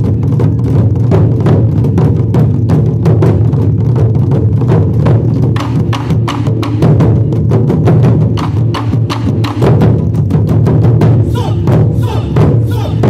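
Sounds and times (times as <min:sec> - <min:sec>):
taiko drums playing fast rhythm: 0:00.0 - 0:13.0.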